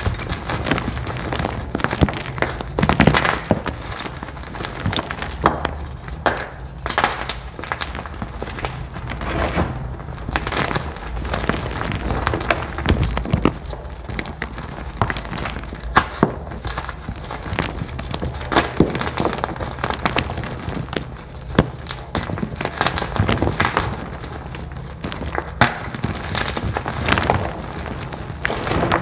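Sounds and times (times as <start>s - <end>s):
dye blocks crunching: 0.0s - 29.0s.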